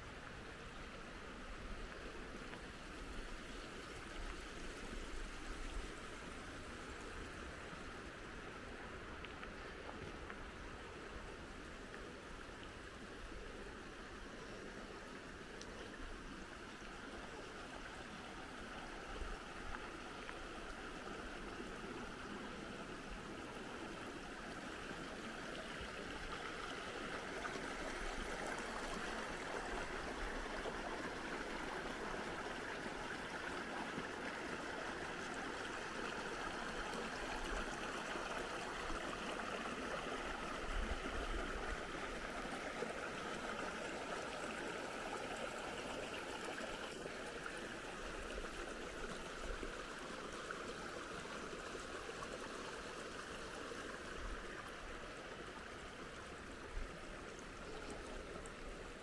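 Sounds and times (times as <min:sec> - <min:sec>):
creek water rushing over stones: 0:00.0 - 0:59.0.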